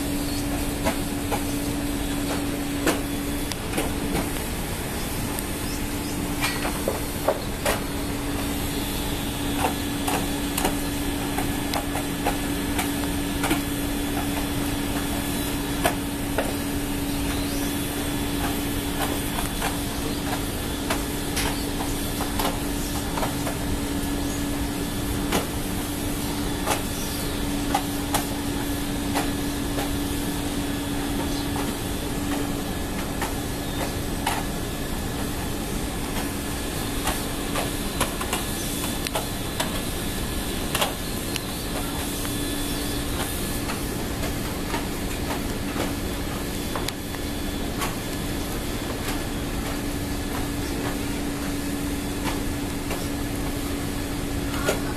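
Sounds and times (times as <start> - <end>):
machinery humming: 0.0 - 54.9.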